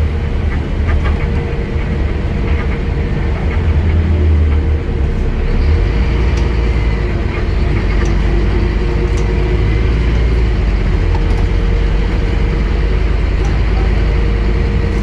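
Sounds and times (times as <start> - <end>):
diesel bus engine droning: 0.0 - 15.0.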